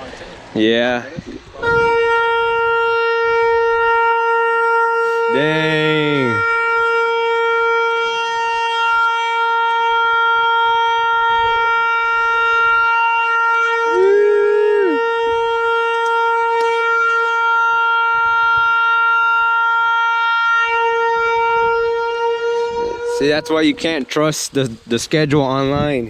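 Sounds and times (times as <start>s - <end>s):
warning horn long steady note: 1.6s - 24.1s.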